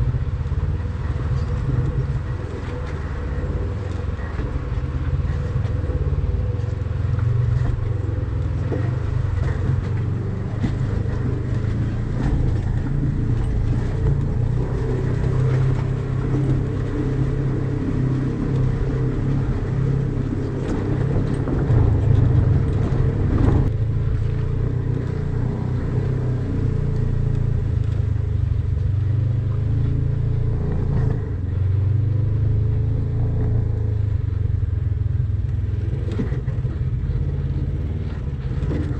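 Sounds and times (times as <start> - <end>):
off-road vehicle engine drone: 0.0 - 38.9.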